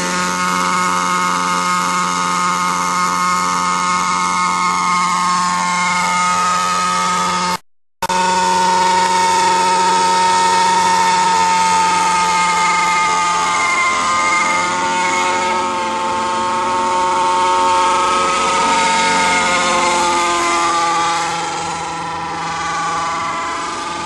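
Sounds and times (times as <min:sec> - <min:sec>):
model helicopter engine running: 0:00.0 - 0:24.0.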